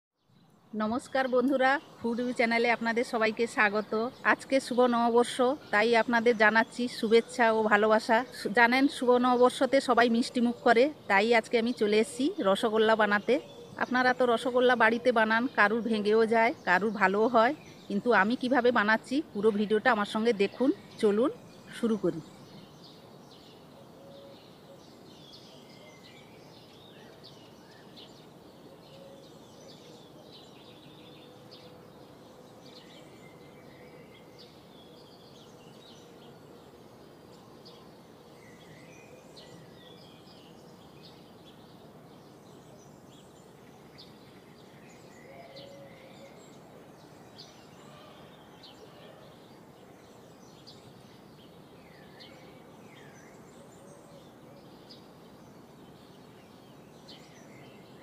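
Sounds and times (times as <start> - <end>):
faint background hiss: 0.2 - 58.0
small birds chirping: 0.2 - 58.0.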